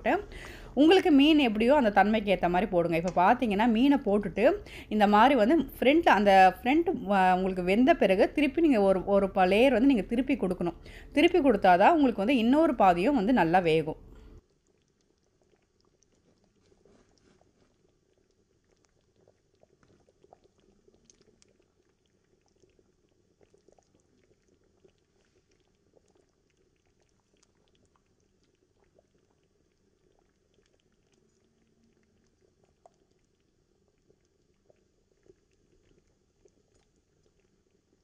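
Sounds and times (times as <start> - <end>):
curry simmering pops: 0.0 - 38.0.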